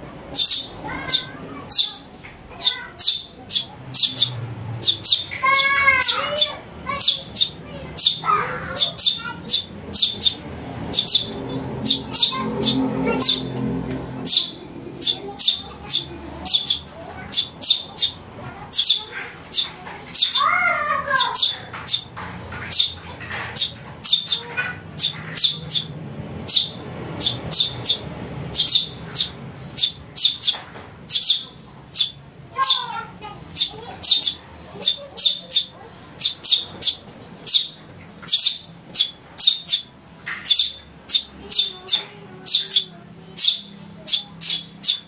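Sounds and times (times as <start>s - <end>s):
young sparrows begging chirps: 0.2s - 45.0s.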